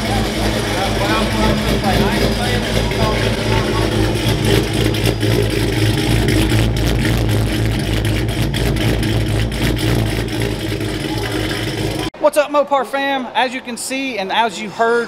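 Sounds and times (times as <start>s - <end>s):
loud pulsing exhaust note: 0.0s - 12.1s.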